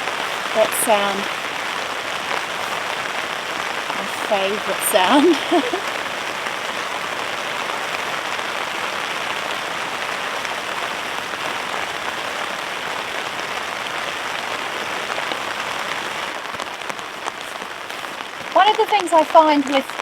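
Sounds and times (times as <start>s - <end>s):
raindrop ticks: 0.0s - 20.0s
steady rain falling: 0.0s - 20.0s.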